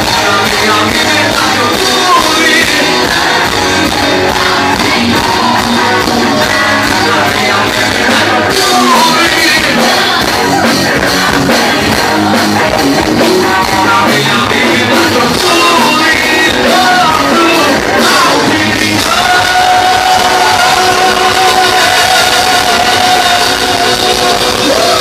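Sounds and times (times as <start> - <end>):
live band playing: 0.0 - 25.0
person singing: 0.0 - 25.0.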